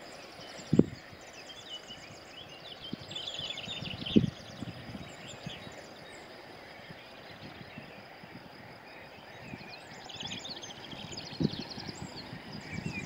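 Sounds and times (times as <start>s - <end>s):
small birds chirping and trilling: 0.0s - 13.0s
steady outdoor background: 0.0s - 13.0s.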